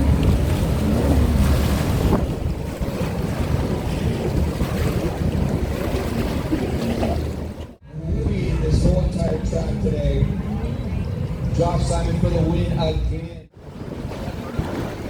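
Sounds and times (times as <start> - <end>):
jet ski engines: 0.0 - 15.0
wind noise on microphone: 0.0 - 15.0.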